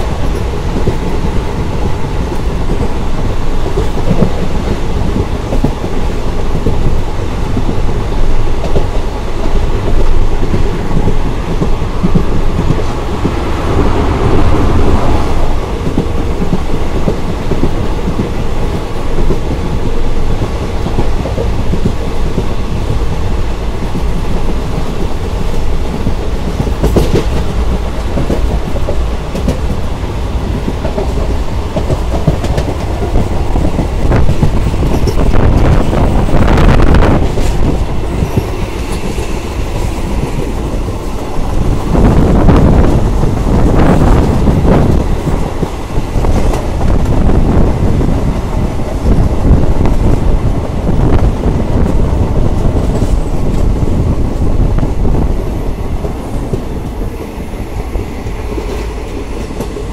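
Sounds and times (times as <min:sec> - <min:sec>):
train coach rumbling: 0:00.0 - 0:59.9
wheels clacking over rail joints: 0:00.0 - 0:59.9.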